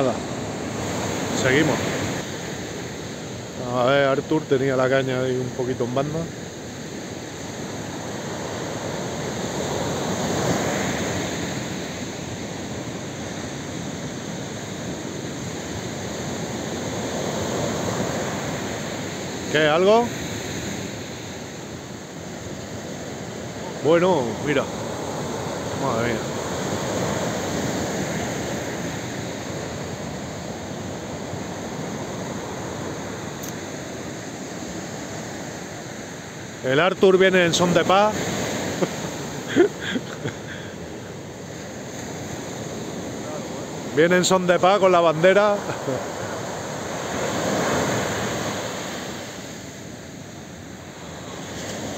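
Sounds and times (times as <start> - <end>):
sea surf breaking on beach: 0.0 - 51.9.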